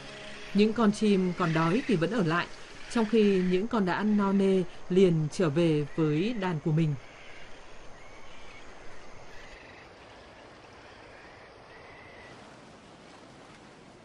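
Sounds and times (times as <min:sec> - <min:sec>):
faint wind or water: 0:00.0 - 0:14.0.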